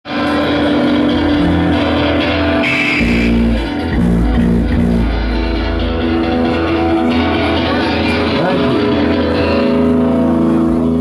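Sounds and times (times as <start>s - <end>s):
bass guitar: 0.0s - 11.0s
electric guitar: 0.0s - 11.0s
live rock band playing: 0.1s - 11.0s.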